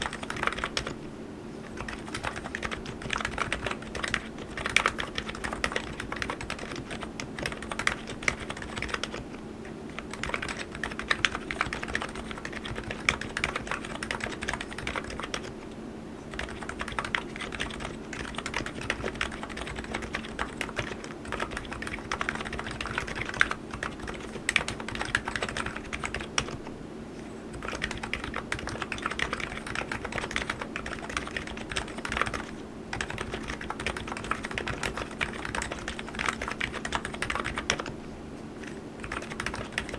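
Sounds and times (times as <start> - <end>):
keyboard typing: 0.0 - 1.0, 1.6 - 15.7, 16.3 - 26.7, 27.5 - 38.0, 38.6 - 39.9.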